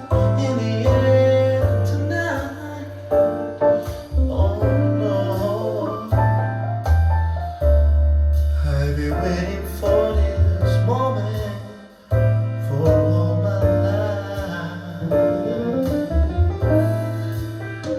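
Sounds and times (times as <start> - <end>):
instrumental music with bass and keyboard: 0.0 - 17.9.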